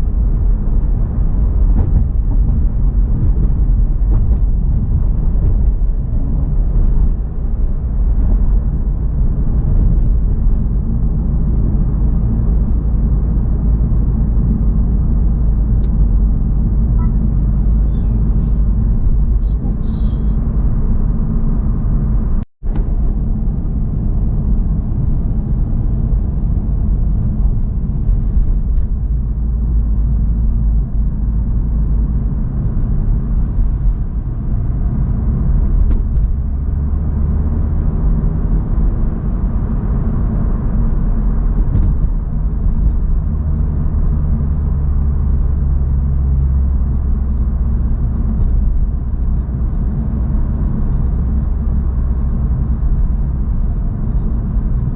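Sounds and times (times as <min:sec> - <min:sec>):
road and engine rumble: 0:00.0 - 0:54.9.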